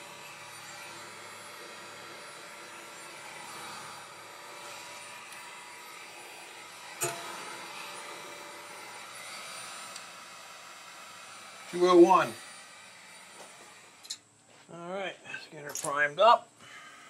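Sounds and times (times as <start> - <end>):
heat gun blowing: 0.0 - 14.3.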